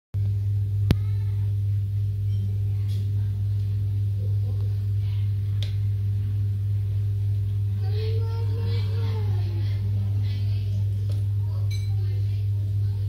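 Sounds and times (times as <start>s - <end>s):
electrical mains hum: 0.2s - 13.0s.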